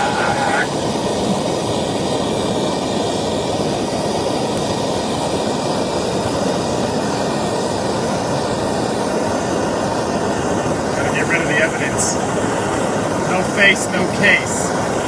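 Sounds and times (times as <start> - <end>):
gas torch flame hissing: 0.0 - 15.0.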